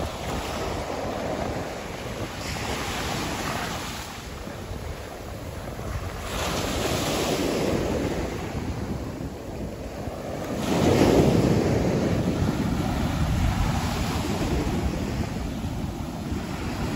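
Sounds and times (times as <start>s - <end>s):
small waves breaking on sand: 0.0s - 16.9s
wind rumbling on microphone: 0.0s - 16.9s.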